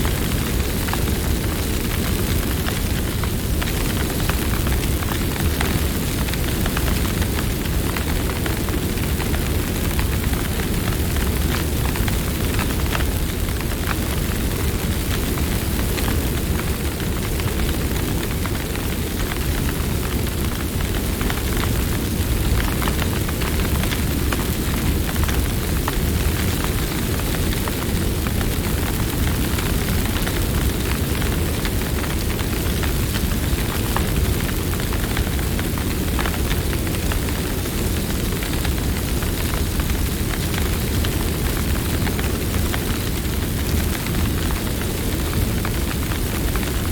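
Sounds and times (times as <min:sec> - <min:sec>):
campfire crackling: 0:00.0 - 0:46.9.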